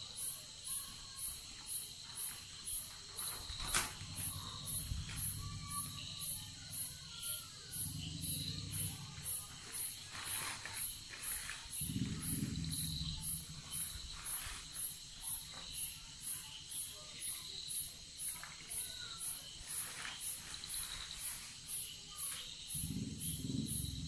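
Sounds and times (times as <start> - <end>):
insect trill: 0.0 - 24.0
insects chirping: 0.0 - 24.0.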